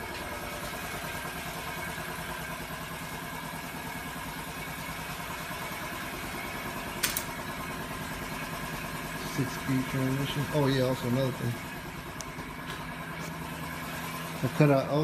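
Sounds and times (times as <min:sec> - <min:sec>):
machine humming with low pulse: 0:00.0 - 0:14.9.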